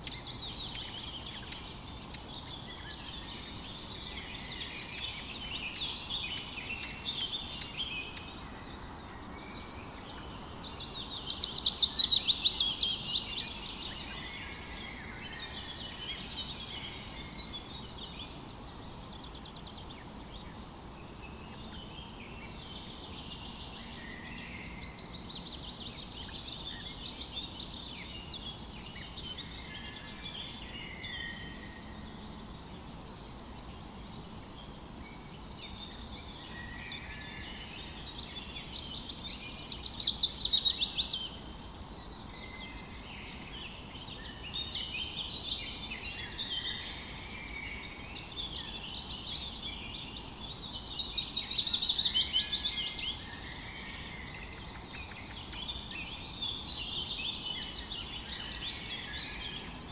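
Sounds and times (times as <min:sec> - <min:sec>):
low steady background hiss: 0:00.0 - 0:59.9
songbirds chirping and singing: 0:00.0 - 0:59.9.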